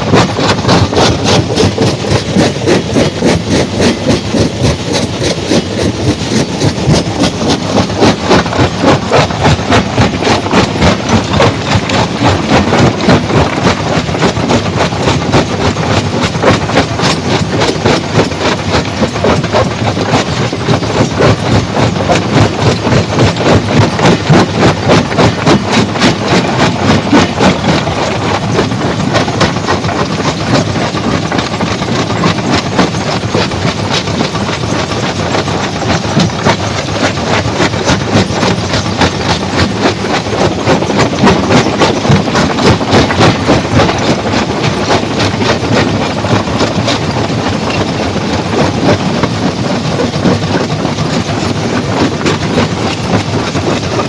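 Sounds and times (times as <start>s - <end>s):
stone-crushing machinery clatter: 0.0s - 54.0s.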